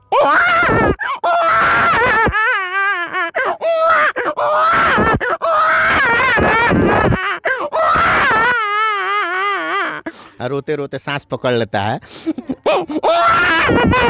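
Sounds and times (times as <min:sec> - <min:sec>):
man imitating child crying: 0:00.0 - 0:10.2, 0:12.5 - 0:14.0.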